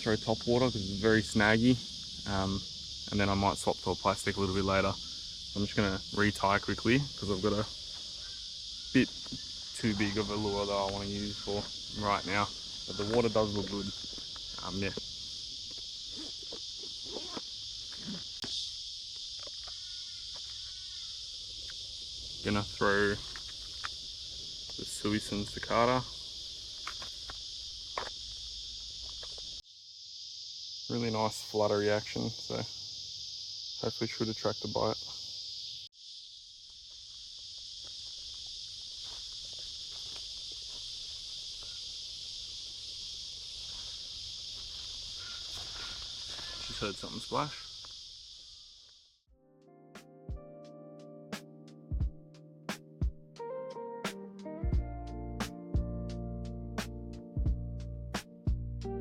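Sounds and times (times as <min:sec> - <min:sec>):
high-pitched insect chorus: 0:00.0 - 0:49.3, 0:54.1 - 0:59.0.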